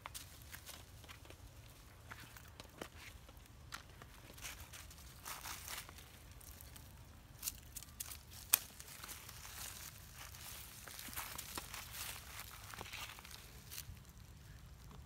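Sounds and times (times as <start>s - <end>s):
dry leaf litter rustling: 0.0s - 15.0s.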